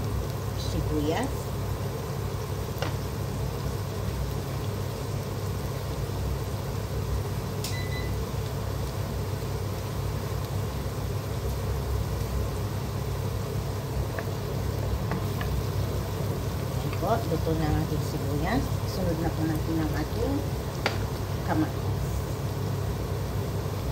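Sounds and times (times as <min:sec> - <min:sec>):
onions frying in oil: 0:00.0 - 0:23.9
steady low hum: 0:00.0 - 0:23.9.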